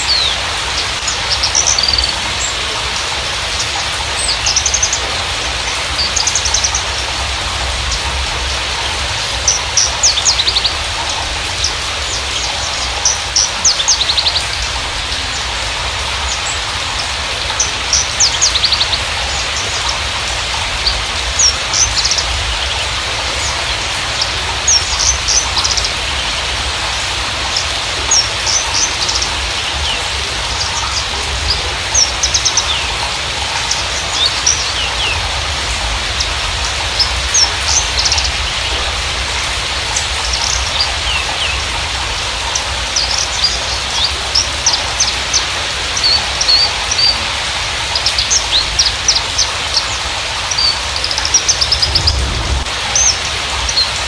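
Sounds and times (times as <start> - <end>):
bird singing chirps and trills: 0.0 - 54.0
steady rain-like hiss: 0.0 - 54.0.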